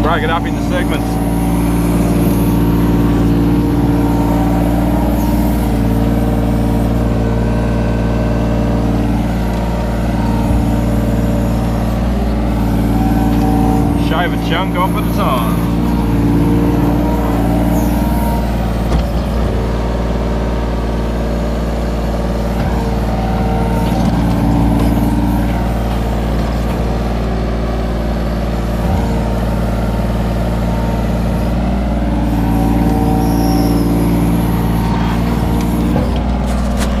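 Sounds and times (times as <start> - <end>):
excavator diesel engine drone: 0.0 - 37.0
hydraulic whines: 0.0 - 37.0.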